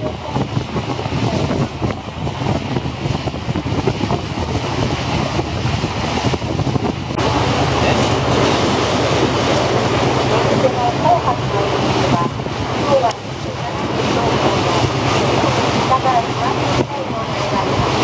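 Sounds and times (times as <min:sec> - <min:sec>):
boat engine droning: 0:00.0 - 0:18.0
wind and water rushing: 0:00.0 - 0:18.0.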